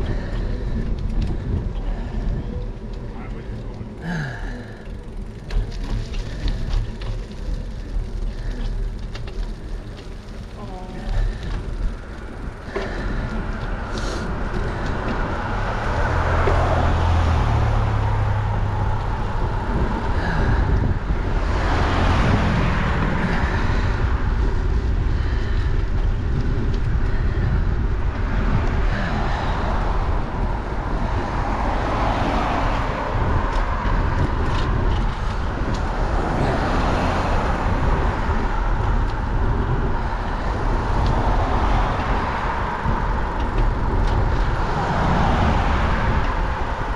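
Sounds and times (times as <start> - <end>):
cars passing: 0.0 - 46.9
tyres rumbling on asphalt: 0.0 - 46.9
wind rushing over microphone: 0.0 - 46.9.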